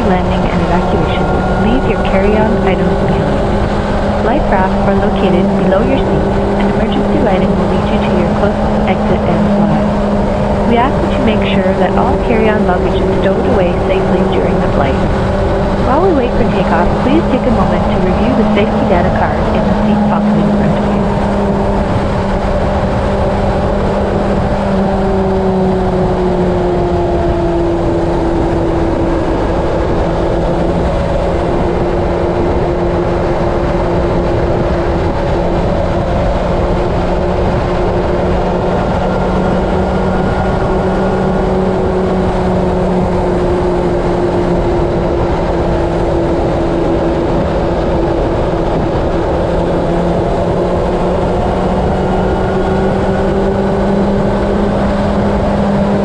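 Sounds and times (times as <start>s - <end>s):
drifting hum: 0.0s - 56.0s
engine drone: 0.0s - 56.0s.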